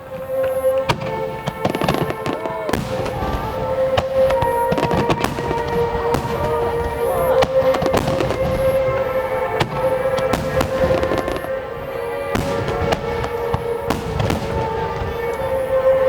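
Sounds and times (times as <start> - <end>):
fireworks bangs and crackles: 0.0 - 16.0
music with long held notes: 0.0 - 16.0.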